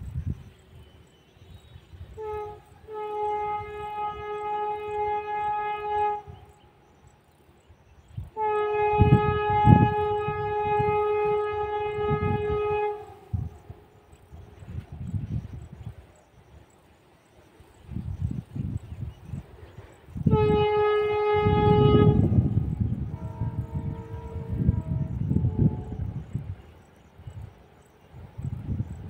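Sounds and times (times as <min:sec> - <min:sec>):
train horn blasts: 0:00.8 - 0:16.6, 0:17.4 - 0:28.8.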